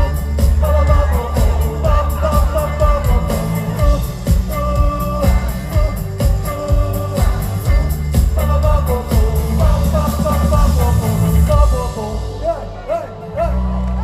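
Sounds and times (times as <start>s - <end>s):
drums: 0.0s - 12.9s
bass guitar: 0.0s - 14.0s
electric guitars: 0.0s - 14.0s
person singing lead vocal: 0.0s - 14.0s.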